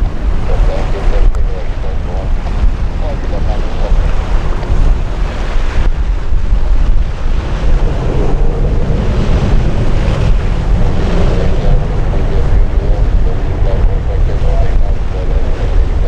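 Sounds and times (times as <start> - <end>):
faint steady hum: 0.0 - 16.0
wind buffeting microphone: 0.0 - 16.0.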